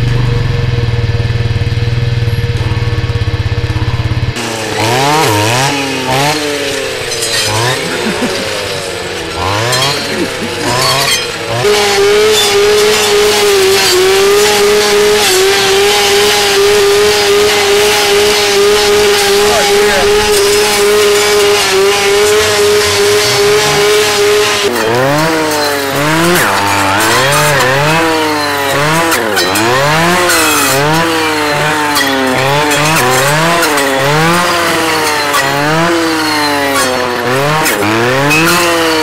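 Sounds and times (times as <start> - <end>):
brush saw engine cutting: 2.1 - 39.0.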